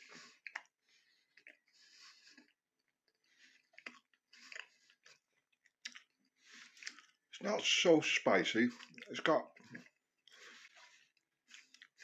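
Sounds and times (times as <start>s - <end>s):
man chewing food: 0.0s - 7.3s, 8.7s - 12.0s.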